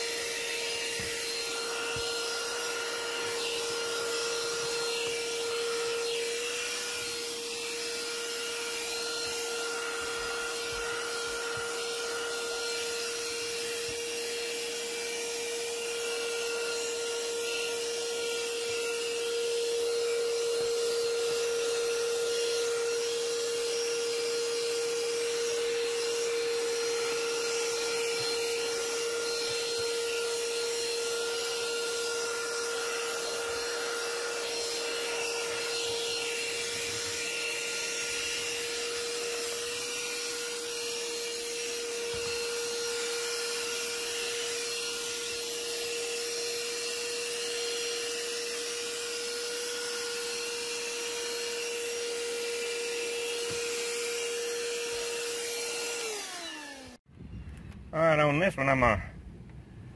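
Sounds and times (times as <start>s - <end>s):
vacuum motor winding down: 0.0s - 57.0s
handheld vacuum running: 0.0s - 57.1s
vacuum sucking air along carpet: 0.0s - 57.1s.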